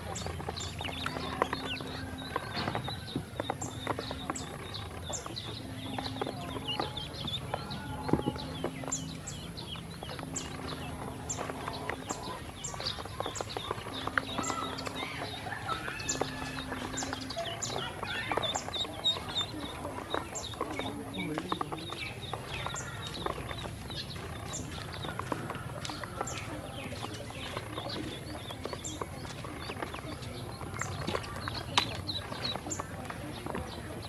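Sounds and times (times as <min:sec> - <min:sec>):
bills pecking plastic tub: 0:00.0 - 0:34.0
ducklings peeping: 0:00.0 - 0:34.0.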